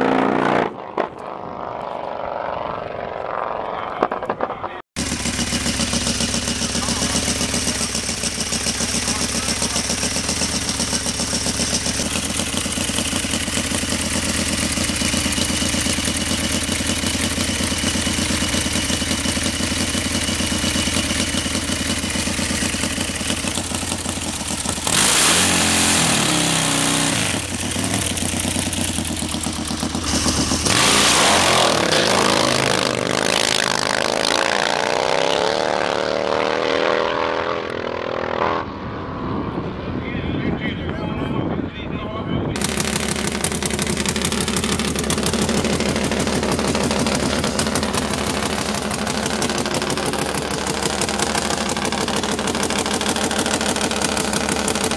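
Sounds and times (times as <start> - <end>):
motorcycle engine idling and revving: 0.0 - 41.6, 42.4 - 54.9.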